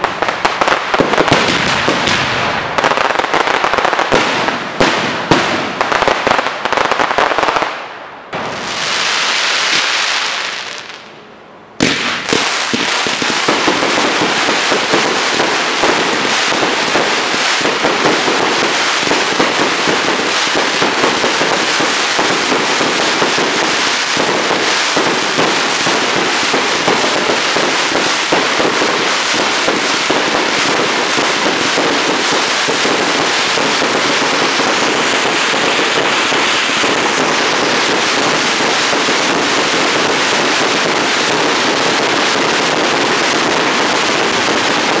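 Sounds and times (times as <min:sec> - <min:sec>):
firework bang: 0:00.0 - 0:07.0, 0:11.8 - 0:45.0
firework fountains hissing and crackling: 0:00.0 - 0:11.2, 0:11.8 - 0:45.0.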